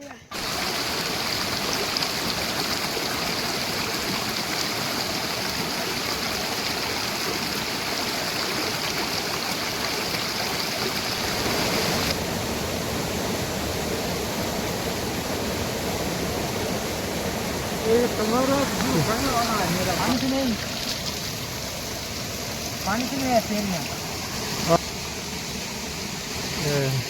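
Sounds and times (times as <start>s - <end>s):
higher steady hiss: 0.0s - 27.0s
running water rushing: 0.0s - 27.0s.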